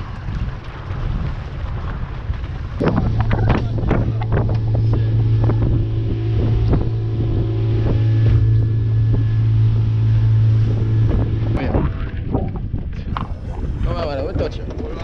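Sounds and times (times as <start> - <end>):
outboard motor humming: 2.8 - 15.0.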